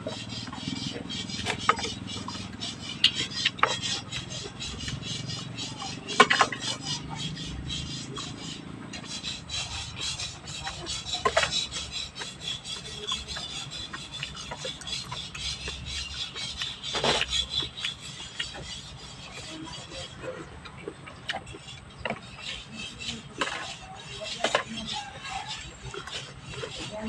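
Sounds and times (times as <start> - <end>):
fast chewing: 0.0 - 27.0.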